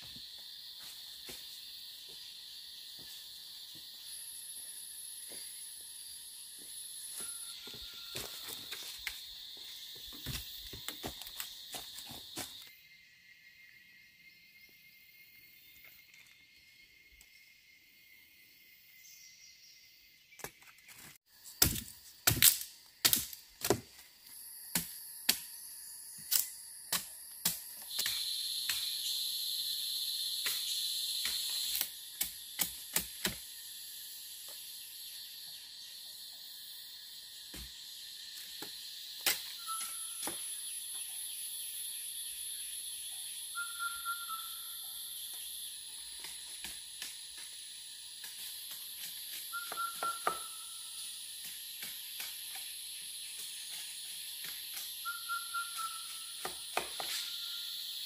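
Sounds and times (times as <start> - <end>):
forest insects droning: 0.0 - 58.0.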